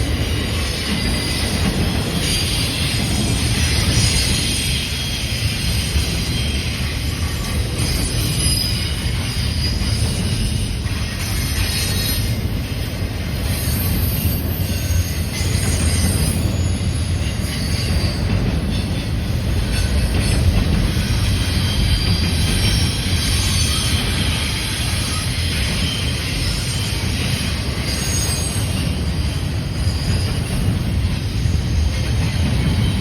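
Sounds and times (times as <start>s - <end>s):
heavy train rumble: 0.0s - 33.0s
wheel squeal: 2.2s - 19.0s, 19.6s - 33.0s.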